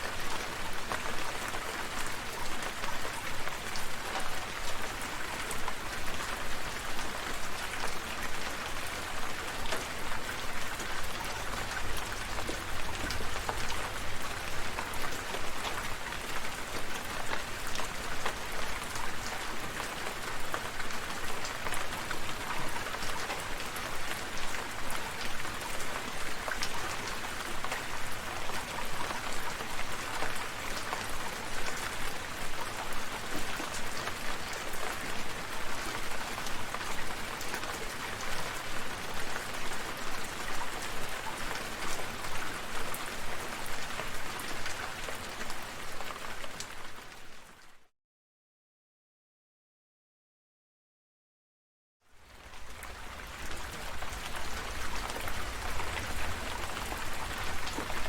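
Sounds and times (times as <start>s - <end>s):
rain falling: 0.0s - 47.8s, 52.1s - 58.0s.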